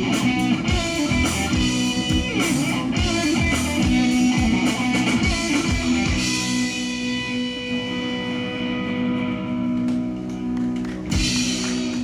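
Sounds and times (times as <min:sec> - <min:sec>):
full band hit: 0:00.0 - 0:12.0
rock band chord ringing: 0:00.0 - 0:12.0.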